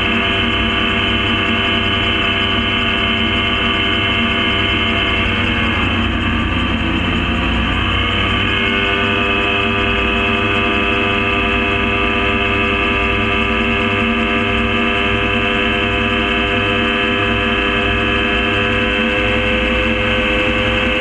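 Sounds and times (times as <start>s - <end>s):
gyrocopter engine drone: 0.0s - 21.0s.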